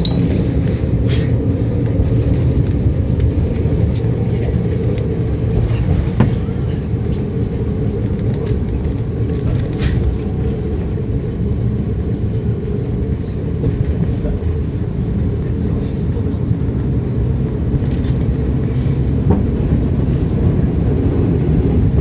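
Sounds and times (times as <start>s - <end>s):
railcar engine rumbling: 0.0s - 22.0s.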